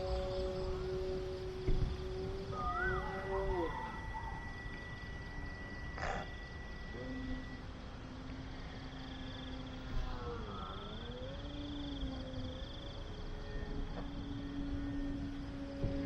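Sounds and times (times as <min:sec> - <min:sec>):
insects trilling: 0:00.0 - 0:16.0
model plane motor droning: 0:00.0 - 0:16.0.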